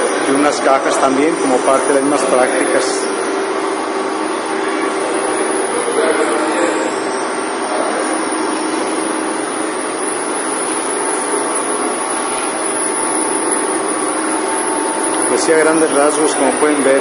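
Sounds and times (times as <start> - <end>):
faint hum: 0.0 - 17.0
machinery running: 0.0 - 17.0.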